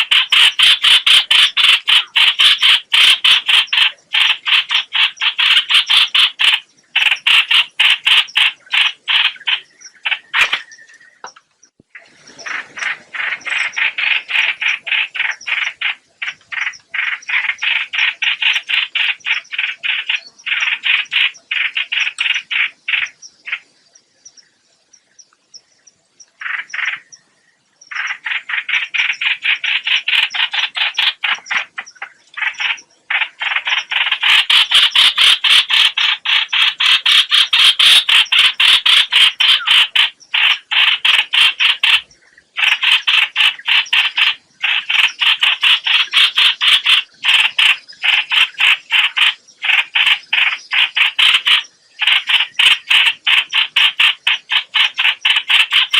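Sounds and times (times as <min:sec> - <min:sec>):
bird rasping chatter: 0:00.0 - 0:11.4, 0:12.3 - 0:23.7, 0:26.4 - 0:27.2, 0:27.9 - 0:55.9.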